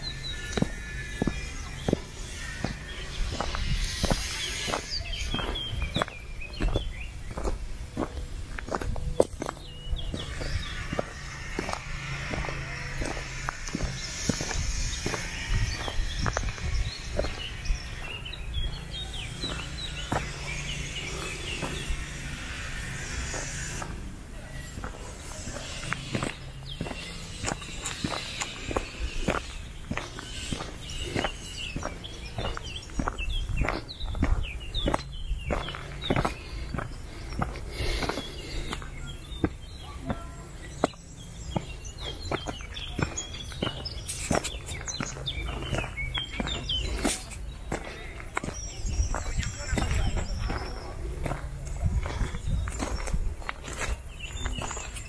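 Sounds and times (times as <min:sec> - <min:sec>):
soft footsteps: 0:00.0 - 0:24.0, 0:24.6 - 0:55.0
small birds chirping: 0:00.0 - 0:55.0.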